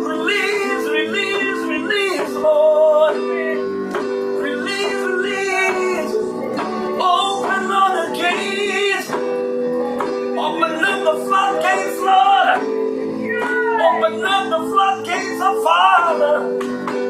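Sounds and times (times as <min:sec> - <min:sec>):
man singing: 0:00.0 - 0:09.4, 0:10.3 - 0:17.0
electronic keyboard chords: 0:00.0 - 0:17.0.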